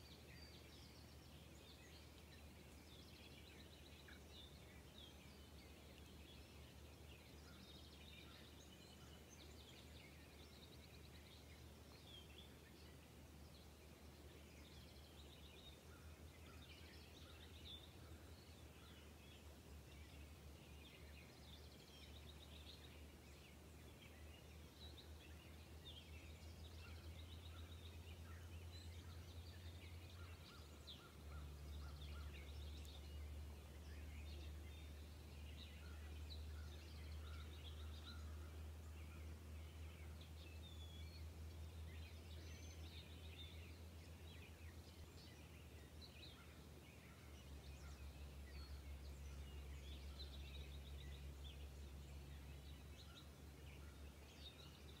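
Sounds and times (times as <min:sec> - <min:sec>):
low steady hum: 0:00.0 - 0:55.0
small birds chirping: 0:00.0 - 0:55.0.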